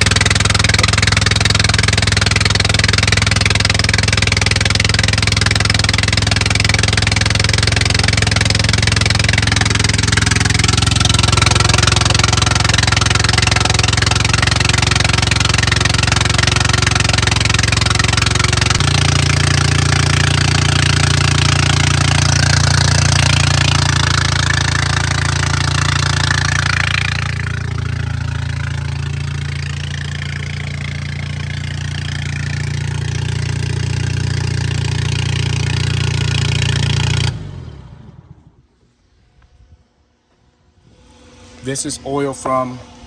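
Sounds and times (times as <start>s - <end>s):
skid steer engine running: 0.0s - 38.4s.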